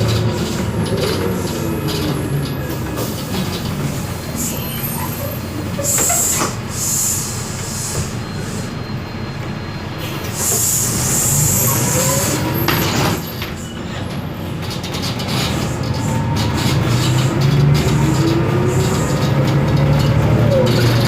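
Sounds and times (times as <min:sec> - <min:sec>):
diesel bus engine hum: 0:00.0 - 0:21.0.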